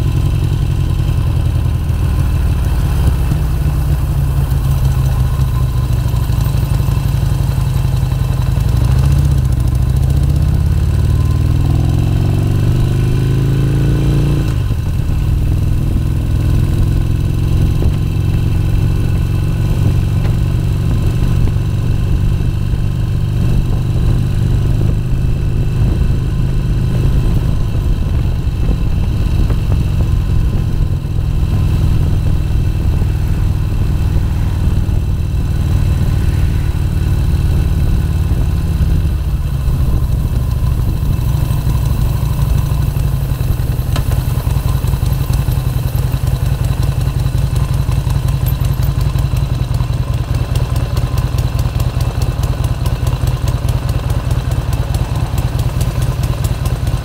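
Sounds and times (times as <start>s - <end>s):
motorcycle engine running and idling: 0.0s - 57.0s.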